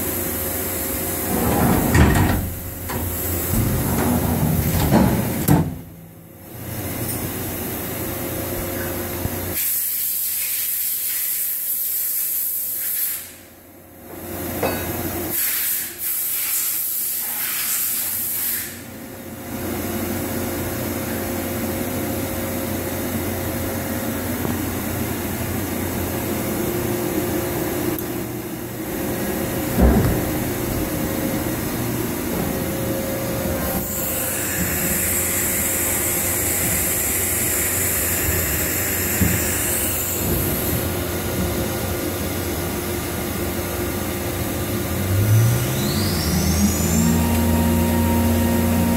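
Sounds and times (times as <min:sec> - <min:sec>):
machinery hum: 0:00.0 - 0:09.6, 0:19.1 - 0:48.9.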